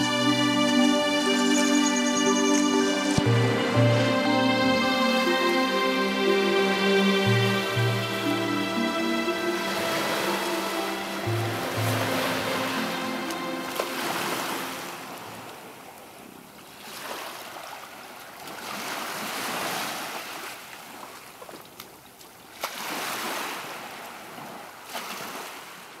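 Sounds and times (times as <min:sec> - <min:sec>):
waves washing up a beach: 0:03.2 - 0:26.0.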